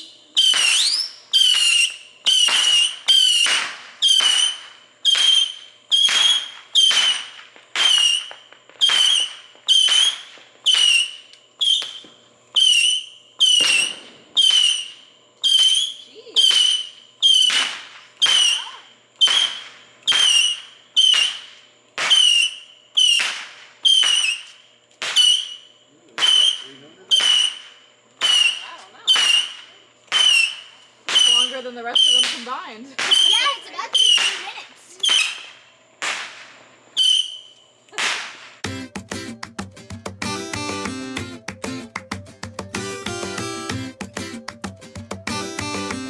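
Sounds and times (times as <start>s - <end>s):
firework whistling: 0.0s - 38.8s.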